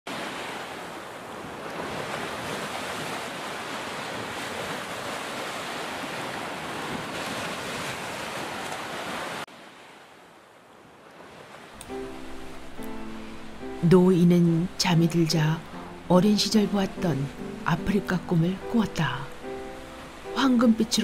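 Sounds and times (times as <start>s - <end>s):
waves breaking on beach: 0.1s - 21.0s.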